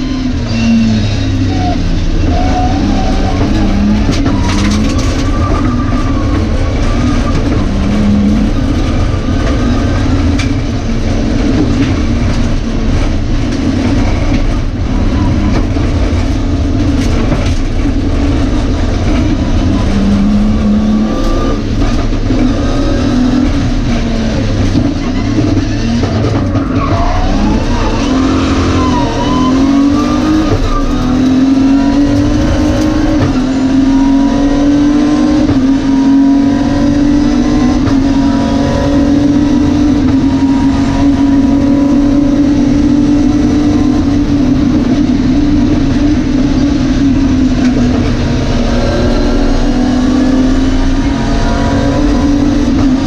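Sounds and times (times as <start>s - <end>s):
rally car engine revving: 0.0s - 53.0s
road and drivetrain noise: 0.0s - 53.0s.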